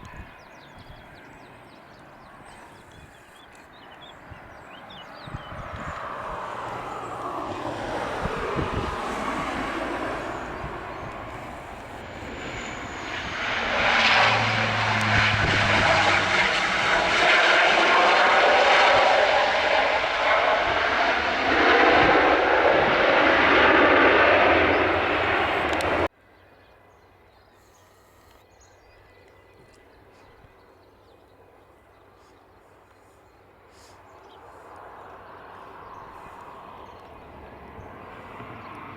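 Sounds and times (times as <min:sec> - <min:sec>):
airliner engines roaring: 0:00.0 - 0:26.1, 0:30.1 - 0:38.9.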